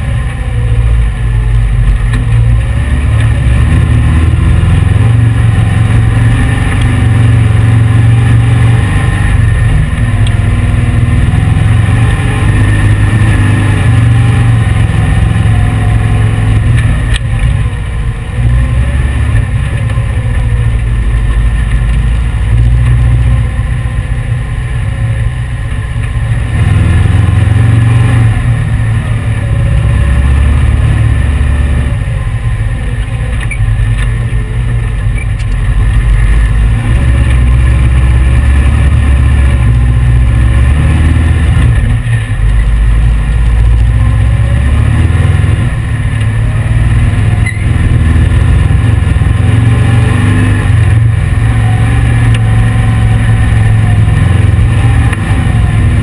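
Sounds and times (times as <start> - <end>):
dune buggy engine running: 0.0 - 56.0.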